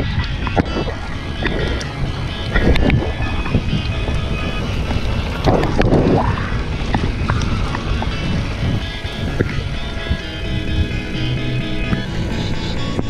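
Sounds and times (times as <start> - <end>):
bike clicks and rattles: 0.0 - 13.0
low rumble: 0.0 - 13.0
wind buffeting microphone: 0.0 - 13.0.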